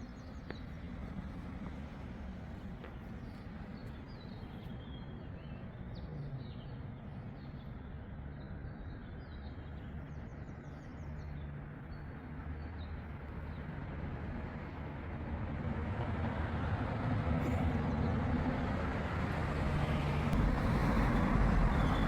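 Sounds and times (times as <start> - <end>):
road traffic rumble: 0.0 - 4.8, 5.8 - 22.0.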